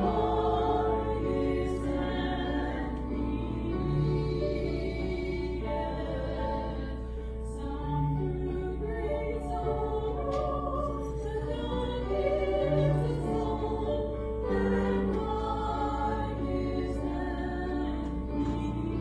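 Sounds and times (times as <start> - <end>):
choir singing slowly: 0.0 - 19.0.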